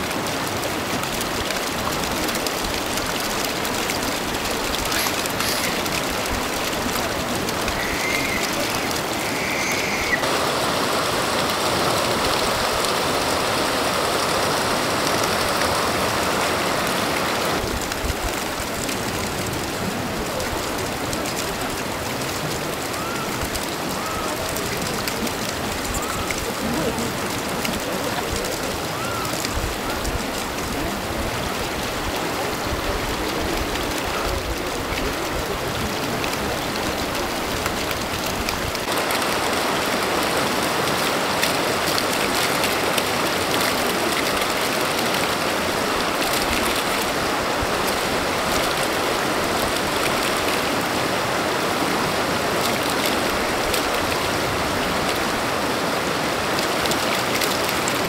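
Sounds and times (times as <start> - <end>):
river flowing over stones: 0.0 - 58.0.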